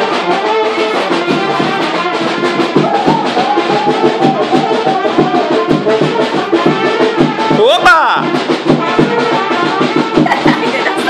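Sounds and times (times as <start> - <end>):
brass band playing lively tune: 0.0 - 11.0
drum beat: 0.0 - 11.0.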